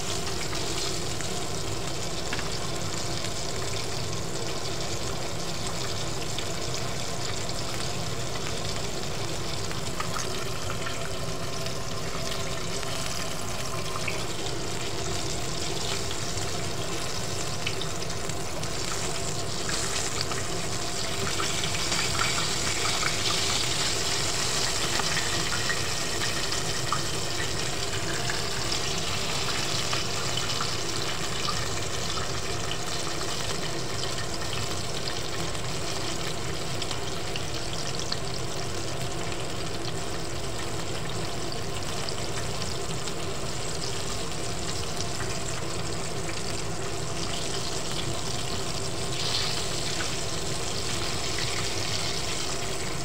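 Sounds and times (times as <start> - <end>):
chicken deep-frying in oil: 0.0 - 53.0.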